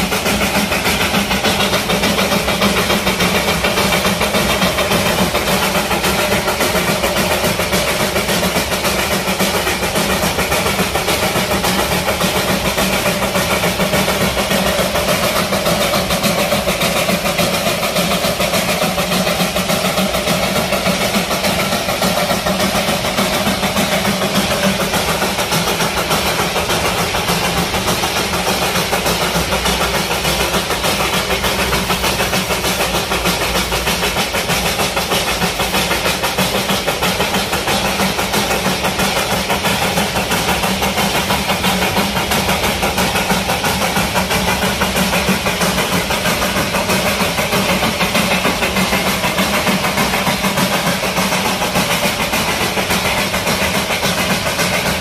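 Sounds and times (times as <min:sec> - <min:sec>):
steam locomotive running: 0:00.0 - 0:55.0.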